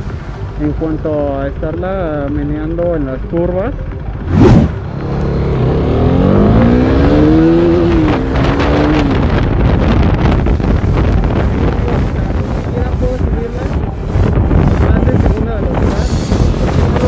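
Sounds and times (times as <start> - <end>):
motorcycle engine accelerating: 0.0 - 17.0
wind noise: 0.0 - 17.0.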